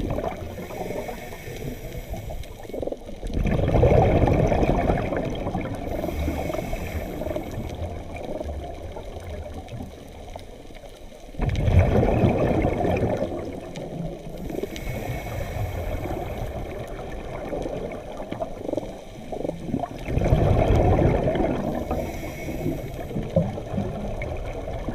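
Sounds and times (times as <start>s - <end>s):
gurgling exhaled bubbles: 0.0s - 10.4s, 11.3s - 24.9s
underwater wash: 0.0s - 24.9s.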